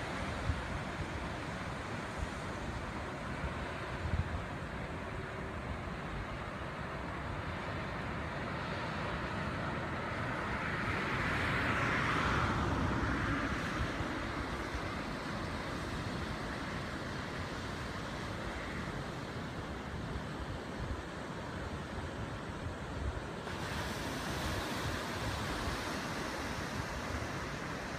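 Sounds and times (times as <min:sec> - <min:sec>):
ocean waves washing onto beach: 0:00.0 - 0:27.9.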